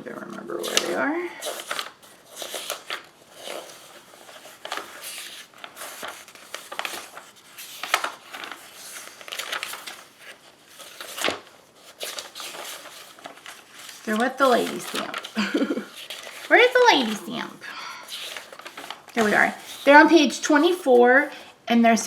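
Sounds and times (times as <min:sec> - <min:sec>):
catalog pages flipping: 0:00.0 - 0:21.2.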